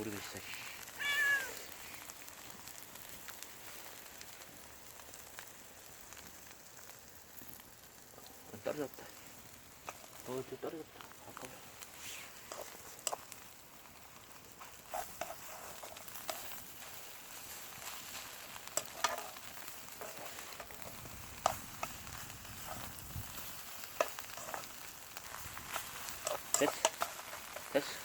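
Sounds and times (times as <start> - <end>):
batter sizzling in a frying pan: 0.0 - 28.0.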